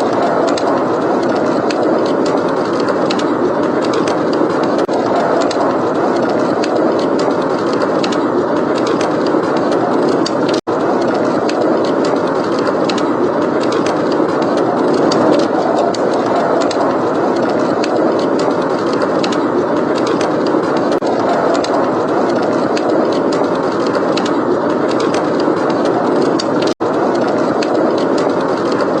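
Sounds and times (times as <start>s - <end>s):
blizzard wind blowing: 0.0s - 29.0s
wood fire crackling: 0.0s - 29.0s.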